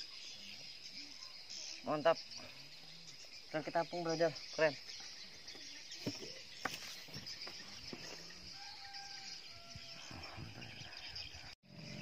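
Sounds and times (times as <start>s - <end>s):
distant bird calls: 0.0s - 12.0s
high insect drone: 0.0s - 12.0s.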